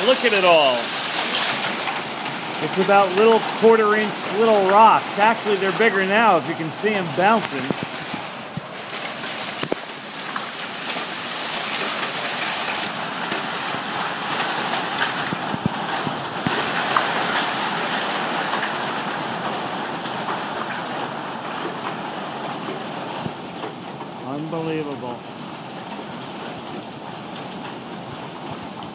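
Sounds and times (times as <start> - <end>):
hailstones ticking: 0.0 - 28.9
rain pouring: 0.0 - 28.9.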